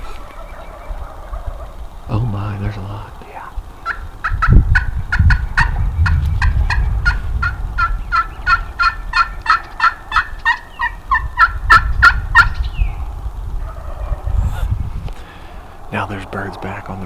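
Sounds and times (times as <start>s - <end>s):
wild turkeys calling: 0.0s - 17.0s.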